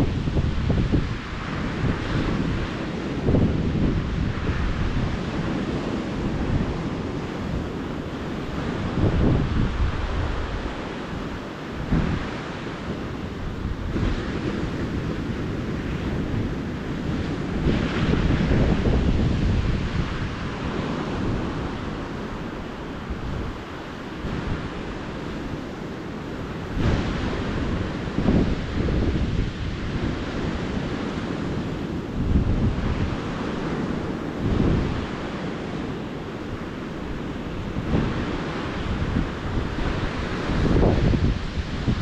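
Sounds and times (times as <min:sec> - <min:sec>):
ocean surf washing onto beach: 0:00.0 - 0:42.0
wind buffeting microphone: 0:00.0 - 0:42.0.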